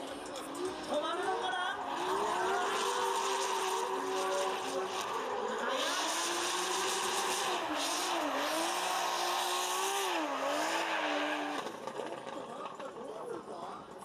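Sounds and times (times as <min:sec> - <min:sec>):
car engine at high revs: 0:00.0 - 0:12.9.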